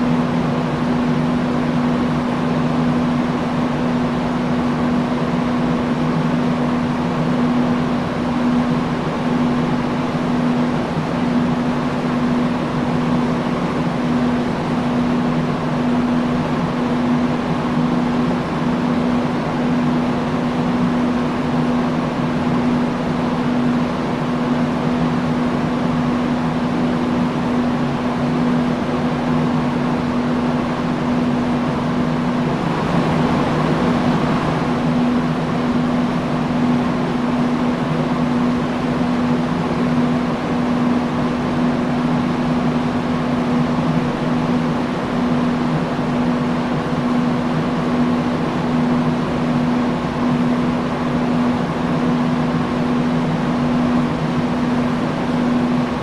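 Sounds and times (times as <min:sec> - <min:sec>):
industrial fan running: 0:00.0 - 0:56.0.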